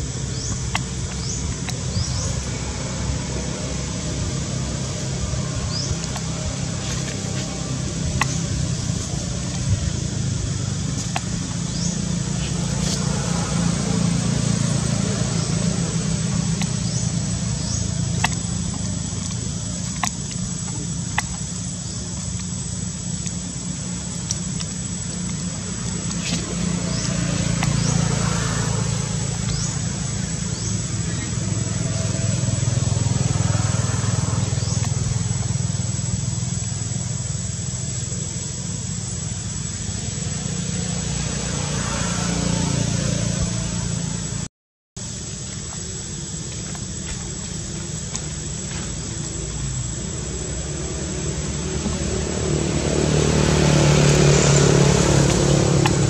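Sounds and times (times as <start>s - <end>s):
engine droning: 0.0s - 56.0s
steady low rumble: 0.0s - 56.0s.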